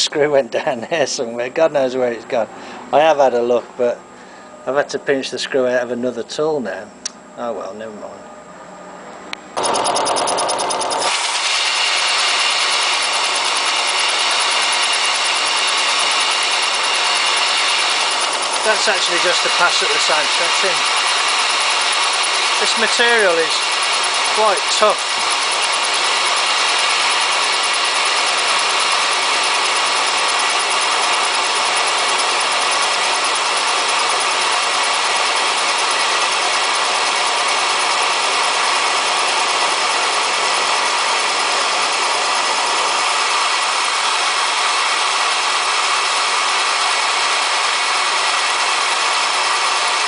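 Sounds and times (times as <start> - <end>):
milling machine cutting steel: 9.6 - 50.0.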